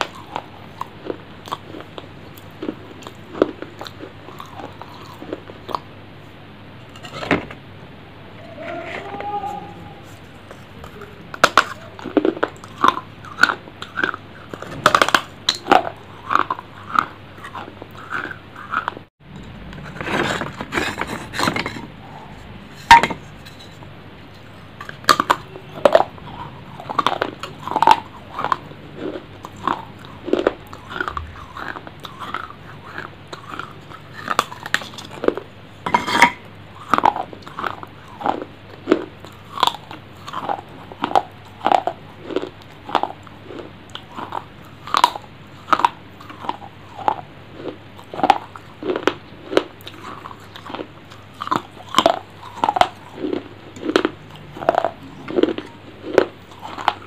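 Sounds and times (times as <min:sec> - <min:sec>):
crunchy chewing: 0:00.0 - 0:06.0, 0:09.5 - 0:19.1, 0:19.8 - 0:57.0.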